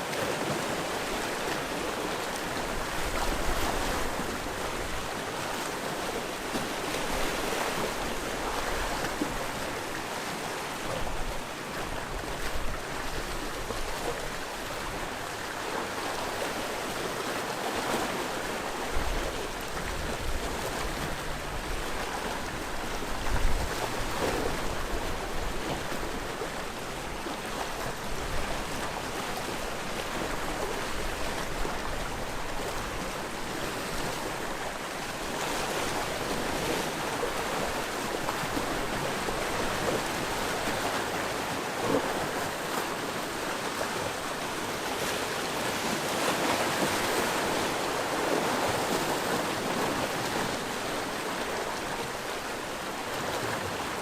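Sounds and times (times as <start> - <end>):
waves washing on rocky shore: 0.0 - 54.0.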